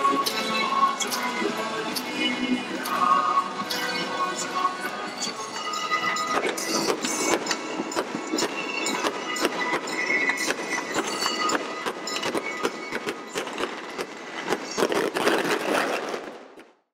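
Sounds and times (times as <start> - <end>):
fireworks crackling and popping: 0.0 - 16.9.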